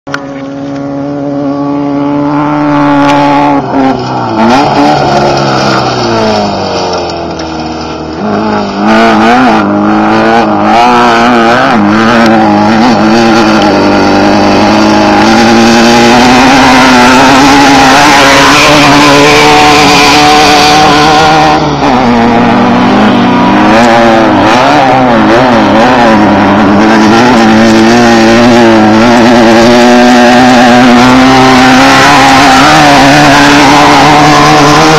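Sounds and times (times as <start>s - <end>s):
race car engines revving: 0.0s - 34.9s.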